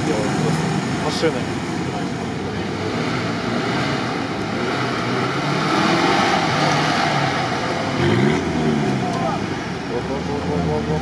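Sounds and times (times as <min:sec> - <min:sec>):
off-road vehicle engines droning: 0:00.0 - 0:11.0.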